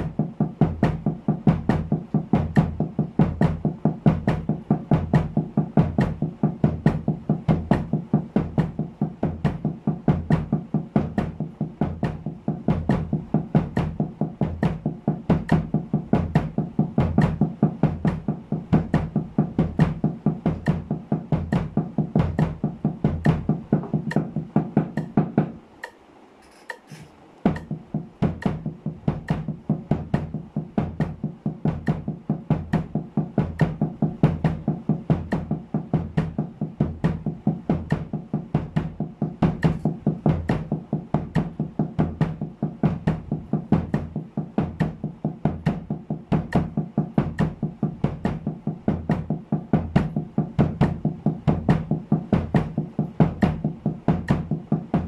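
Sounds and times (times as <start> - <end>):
kick drum: 0.0 - 25.6, 27.5 - 55.0
muffled snare drum strokes: 0.0 - 55.0.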